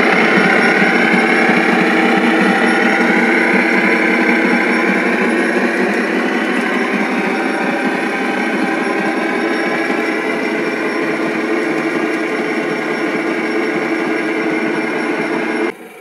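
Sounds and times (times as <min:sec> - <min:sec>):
freight train rumbling past: 0:00.0 - 0:15.7.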